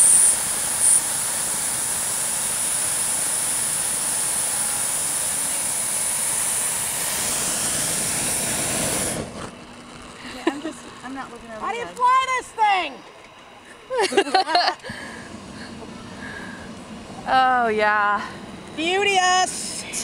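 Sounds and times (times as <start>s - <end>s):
propane burner hissing: 0.0s - 20.0s.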